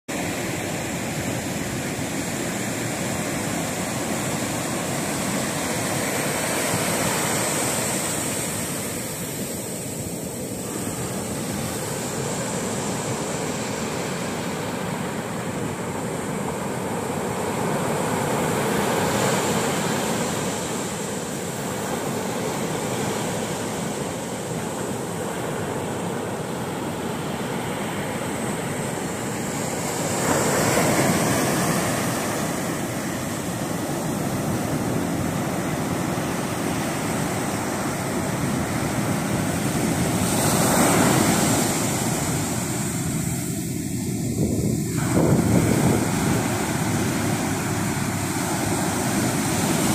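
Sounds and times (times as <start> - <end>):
surf breaking on a beach: 0.1 - 49.9.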